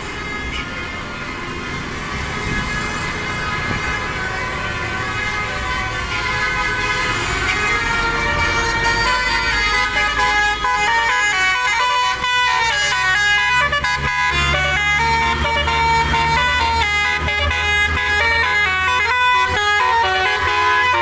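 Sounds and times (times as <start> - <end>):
bus engine running: 0.0 - 21.0
musical bus air horns: 0.0 - 21.0.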